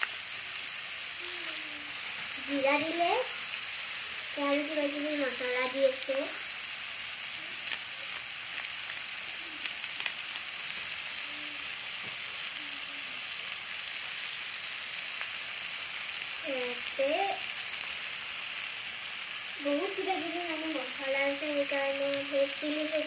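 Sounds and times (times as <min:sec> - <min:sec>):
masala sizzling in hot oil: 0:00.0 - 0:23.0.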